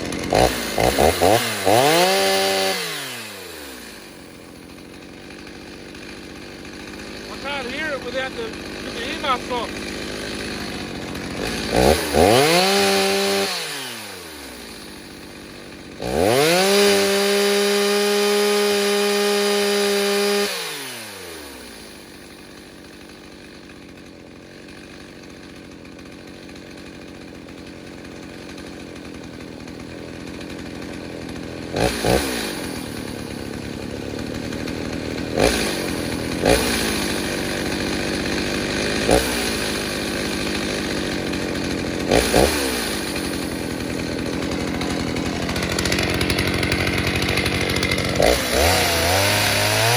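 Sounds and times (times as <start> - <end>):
chainsaw revving and idling: 0.0 - 49.9.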